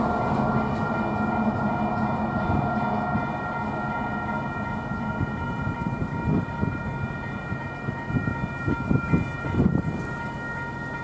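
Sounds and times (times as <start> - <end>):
freight train rumble: 0.0 - 11.0
high ringing tones: 0.0 - 11.0.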